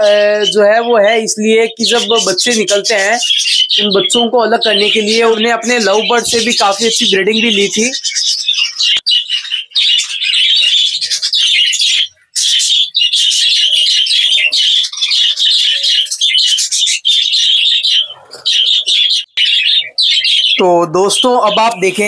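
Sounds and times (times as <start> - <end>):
budgerigars chattering and chirping: 0.0 - 22.0.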